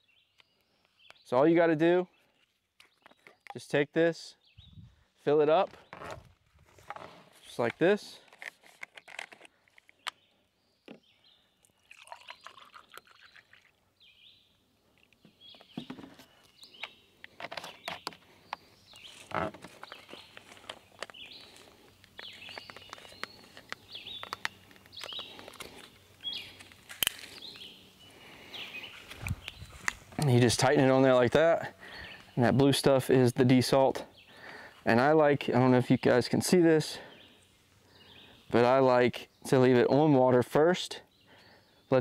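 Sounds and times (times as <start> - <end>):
birds singing: 0.0 - 6.3, 7.0 - 42.0.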